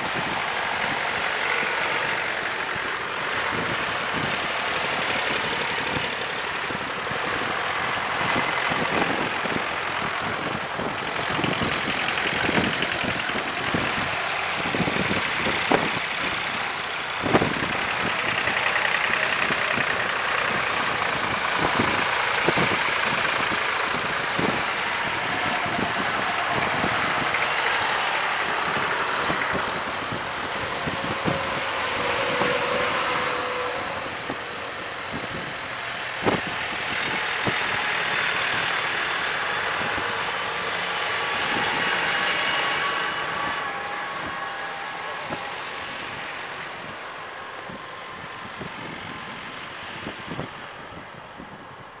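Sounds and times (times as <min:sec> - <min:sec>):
car passing: 0:00.0 - 0:51.4
tractors driving past: 0:00.0 - 0:52.0.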